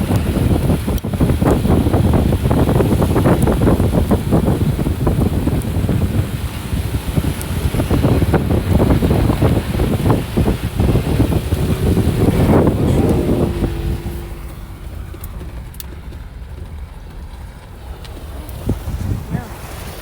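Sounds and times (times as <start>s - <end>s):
off-road vehicle rumbling: 0.0s - 20.0s.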